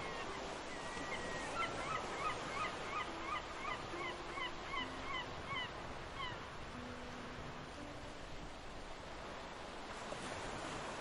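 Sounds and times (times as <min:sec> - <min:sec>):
wind and sea hiss: 0:00.0 - 0:11.0.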